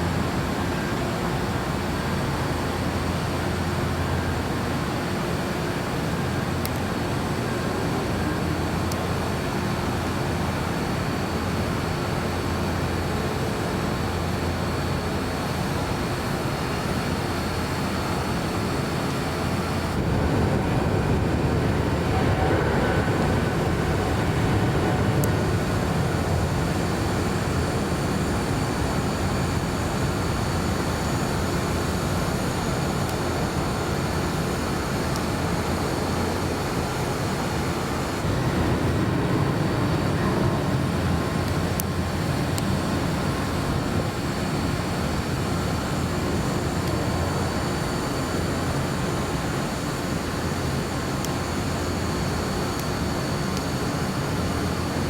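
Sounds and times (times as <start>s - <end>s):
jet airliner engines rushing: 0.0s - 55.0s.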